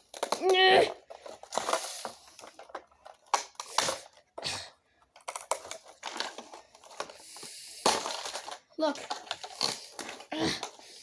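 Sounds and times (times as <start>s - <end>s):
plastic housing cracking and knocking: 0.0s - 4.4s, 5.1s - 7.2s, 7.8s - 11.0s.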